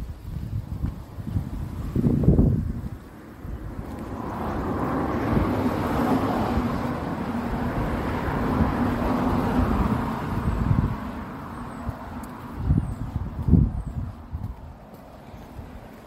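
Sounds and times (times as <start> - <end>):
wind rumble on microphone: 0.0 - 16.0
vehicle engine hum passing: 1.5 - 16.0.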